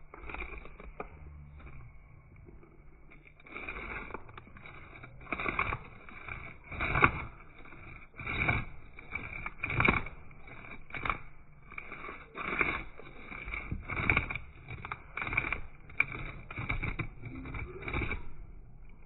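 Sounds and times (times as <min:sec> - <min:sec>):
fish scales being scraped: 0:00.0 - 0:01.1, 0:02.7 - 0:19.0.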